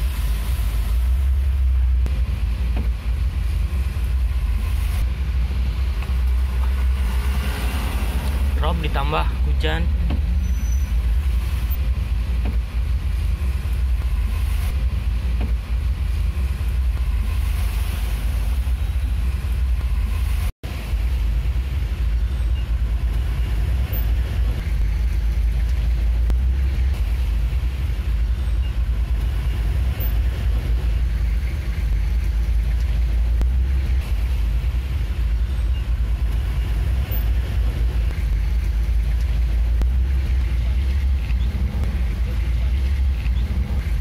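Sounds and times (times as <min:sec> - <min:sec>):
engine rumble inside vehicle: 0:00.0 - 0:44.0
rain and wet road hiss: 0:00.0 - 0:44.0.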